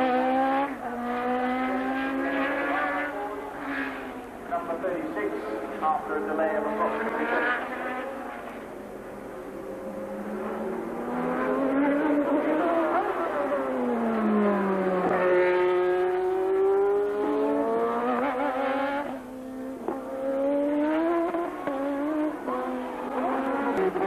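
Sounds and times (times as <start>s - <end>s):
racing cars passing at high revs: 0.0s - 24.0s.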